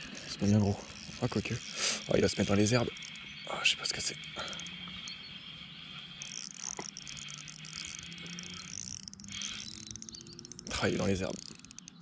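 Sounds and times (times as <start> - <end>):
fishing reel winding whirr: 0.0 - 5.2, 5.9 - 12.0
insects chirring: 0.0 - 12.0.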